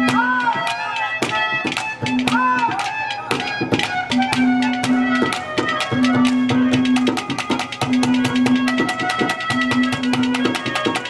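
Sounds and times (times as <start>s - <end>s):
folk instrumental melody: 0.0s - 11.0s
rapid hand-drum strokes: 0.0s - 11.0s.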